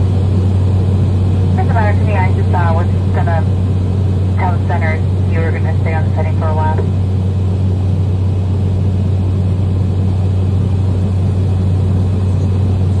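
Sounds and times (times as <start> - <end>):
turboprop engine drone in cabin: 0.0 - 13.0.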